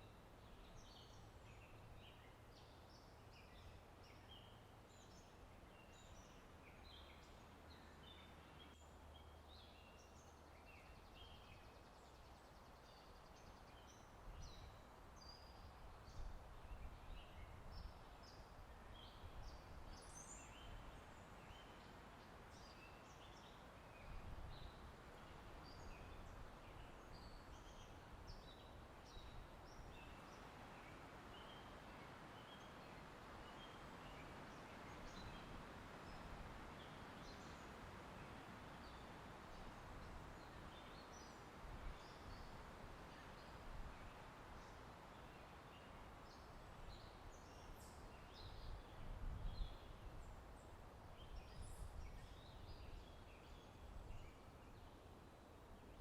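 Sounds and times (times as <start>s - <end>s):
low wind rustle: 0.0s - 56.0s.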